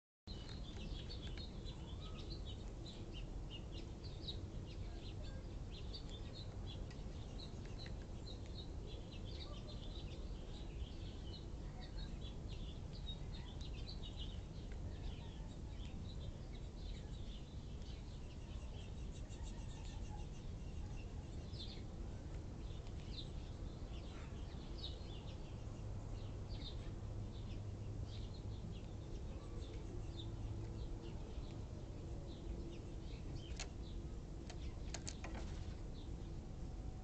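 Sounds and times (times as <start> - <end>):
low background rumble: 0.3 - 37.0
small birds chirping: 0.3 - 37.0.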